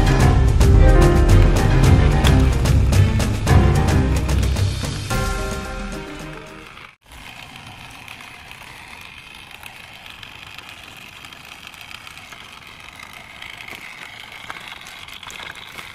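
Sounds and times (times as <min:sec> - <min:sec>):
toy truck motor whirring: 0:02.2 - 0:15.9.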